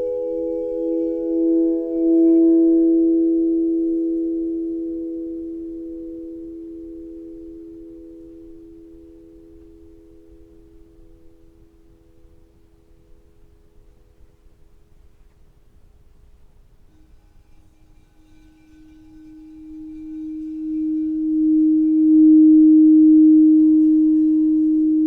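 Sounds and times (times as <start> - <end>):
singing bowl ringing: 0.0 - 13.6, 17.0 - 25.0.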